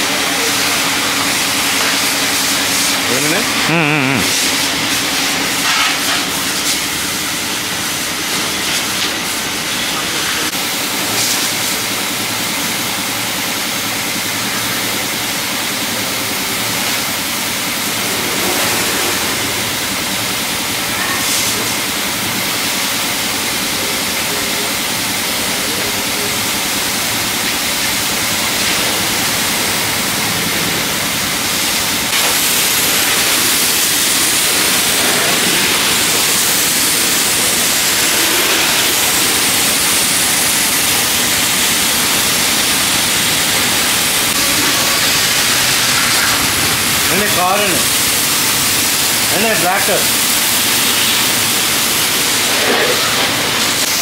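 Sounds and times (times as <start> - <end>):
pressure washer spraying: 0.0 - 12.0, 15.8 - 54.0.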